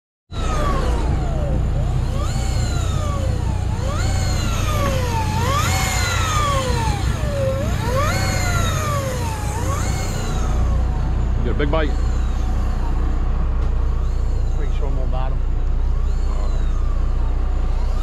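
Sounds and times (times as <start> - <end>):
fishing reel motor whining: 0.3 - 18.0.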